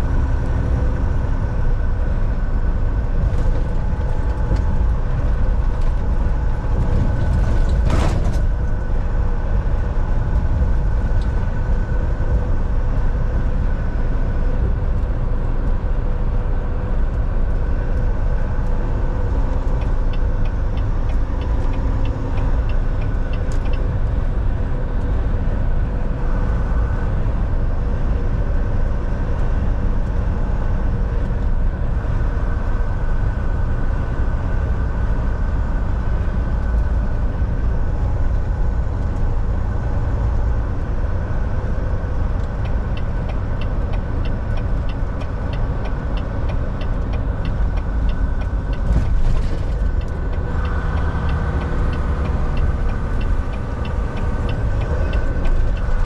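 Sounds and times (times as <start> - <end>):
road rumble: 0.0 - 56.0
truck engine drone: 0.0 - 56.0.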